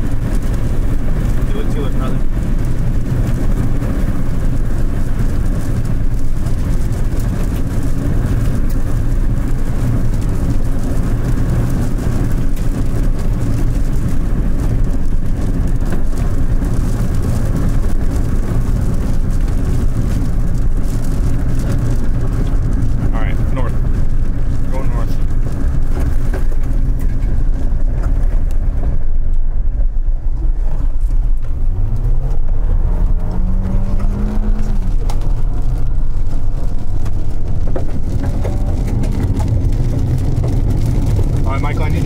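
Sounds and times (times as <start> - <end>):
vehicle engine and road noise: 0.0 - 42.0.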